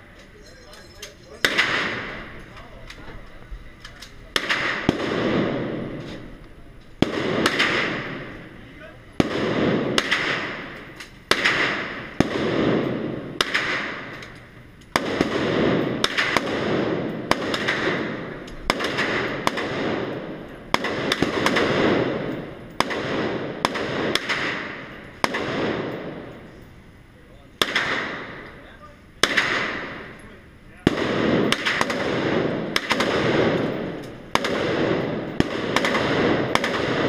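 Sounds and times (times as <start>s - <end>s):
gunshots echoing indoors: 1.3s - 2.4s, 4.2s - 6.4s, 7.0s - 8.6s, 9.2s - 26.5s, 27.6s - 37.0s.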